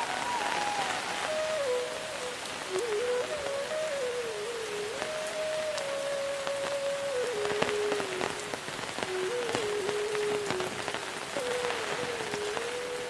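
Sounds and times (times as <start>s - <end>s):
close raindrops ticking: 0.0s - 13.0s
steady rain on trees: 0.0s - 13.0s.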